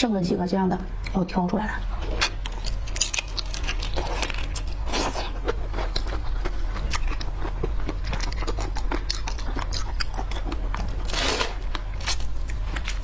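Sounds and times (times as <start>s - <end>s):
biting and chewing seafood: 1.9s - 13.0s.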